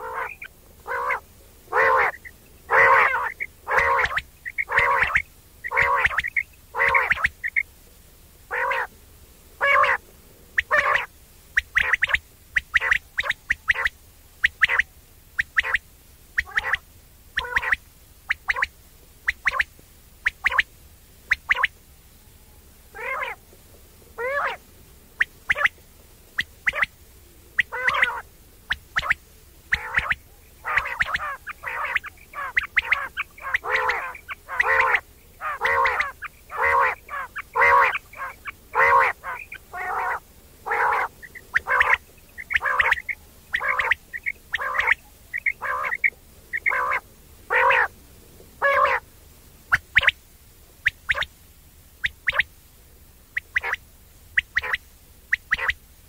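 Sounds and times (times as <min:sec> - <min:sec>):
quail calling: 0:00.0 - 0:07.7, 0:08.5 - 0:09.0, 0:09.6 - 0:21.8, 0:22.9 - 0:23.5, 0:24.1 - 0:48.0, 0:48.6 - 0:50.2, 0:50.8 - 0:51.3, 0:52.0 - 0:52.5, 0:53.3 - 0:55.8.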